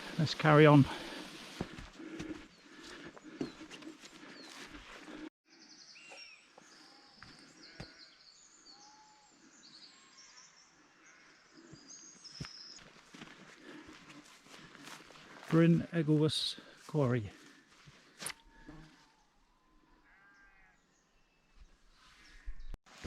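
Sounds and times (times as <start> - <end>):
small birds chirping: 0.0 - 22.8.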